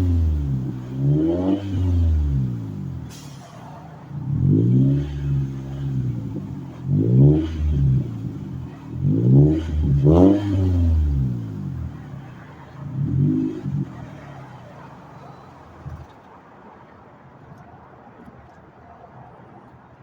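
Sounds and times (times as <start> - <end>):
car engine revving and idling: 0.0 - 16.2.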